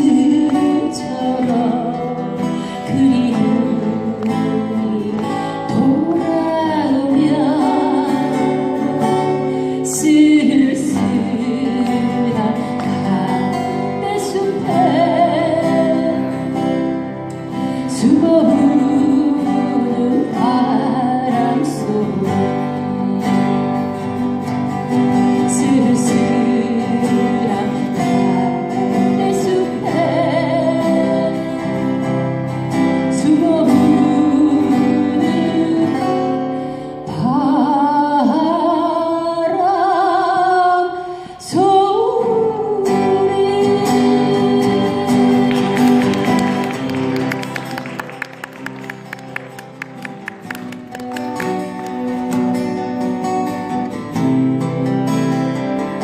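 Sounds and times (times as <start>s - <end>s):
strummed acoustic guitar: 0.0s - 39.7s, 41.2s - 56.0s
woman singing a folk song: 0.0s - 46.9s.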